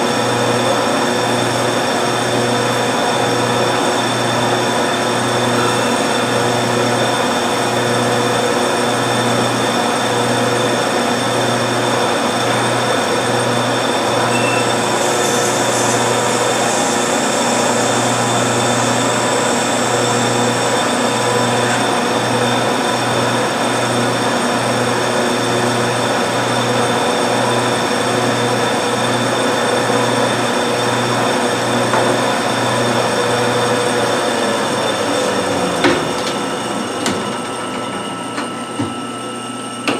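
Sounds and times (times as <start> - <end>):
lathe motor whining: 0.0 - 39.9.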